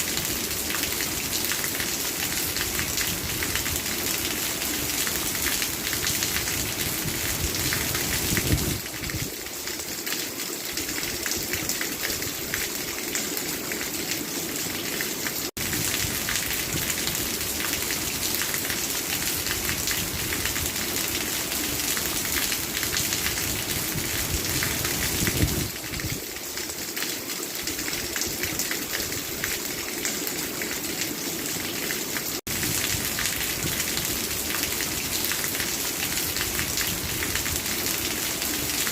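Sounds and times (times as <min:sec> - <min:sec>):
rain hiss and patter: 0:00.0 - 0:38.9.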